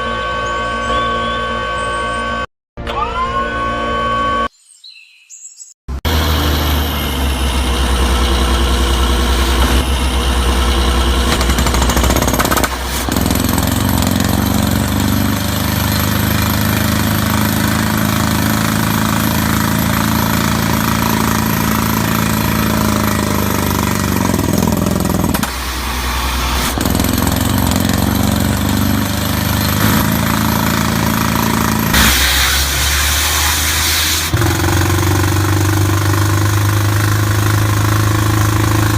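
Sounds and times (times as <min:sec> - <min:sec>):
engine drone: 0:00.0 - 0:04.5, 0:05.9 - 0:38.9
percussive drilling noise: 0:06.0 - 0:38.9.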